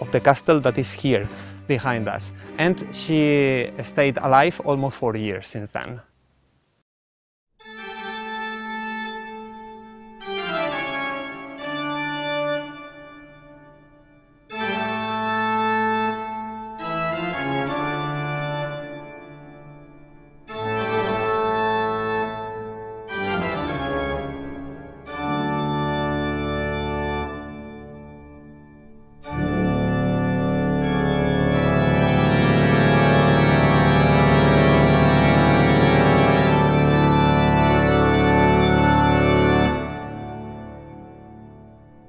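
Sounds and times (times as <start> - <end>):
organ playing slow chords: 0.0 - 4.6, 7.6 - 42.0.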